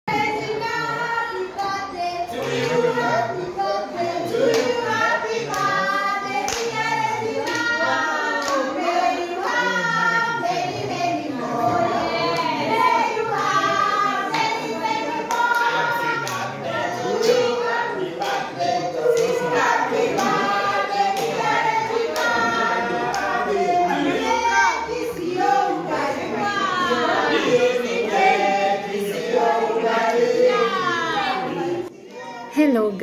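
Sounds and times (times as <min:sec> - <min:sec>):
group of people singing: 0:00.1 - 0:33.0.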